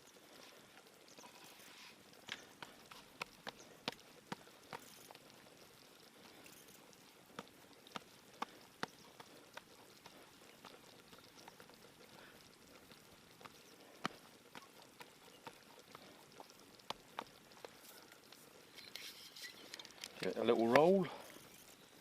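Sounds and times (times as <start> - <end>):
faint sharp clicks and pops: 0.0 - 22.0.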